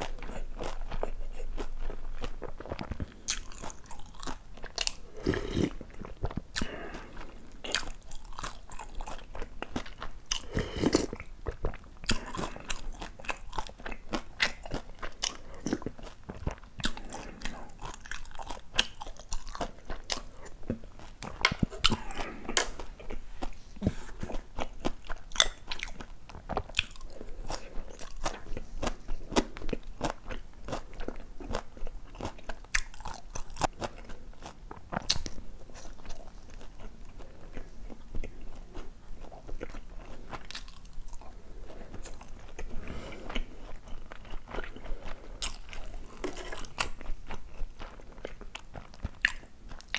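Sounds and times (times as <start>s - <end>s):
chewing with mouth clicks: 0.0s - 49.9s.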